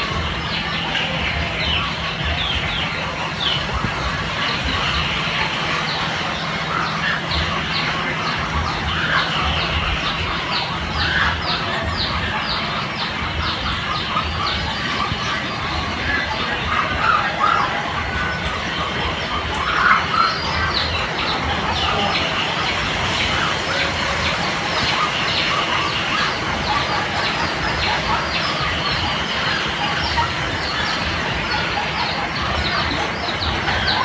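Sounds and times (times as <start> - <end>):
birds chirping and clucking: 0.0 - 34.0.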